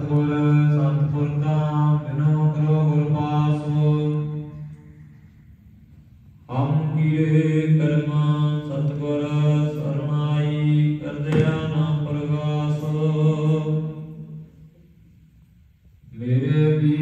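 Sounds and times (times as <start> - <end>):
person chanting: 0.0 - 5.6, 6.3 - 15.2, 16.0 - 17.0.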